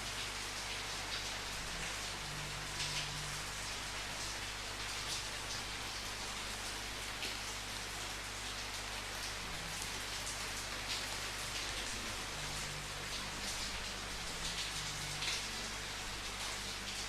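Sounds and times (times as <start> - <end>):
rain pattering on a surface: 0.0 - 17.0.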